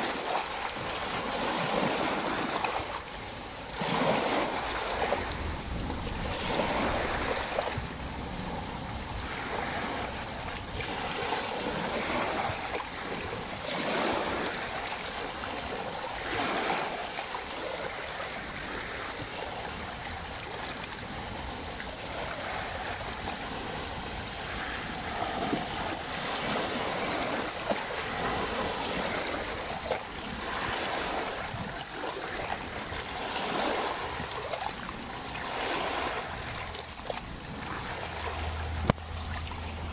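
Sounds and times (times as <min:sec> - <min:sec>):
lake waves washing in: 0:00.0 - 0:39.9
wind rumble on microphone: 0:00.0 - 0:39.9.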